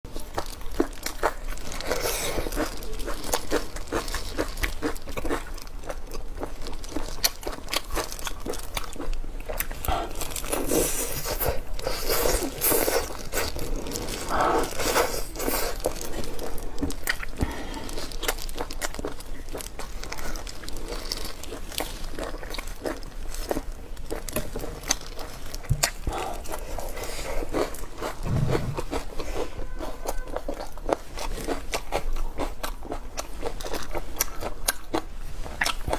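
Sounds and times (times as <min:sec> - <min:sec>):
crunchy chewing: 0:00.1 - 0:35.9.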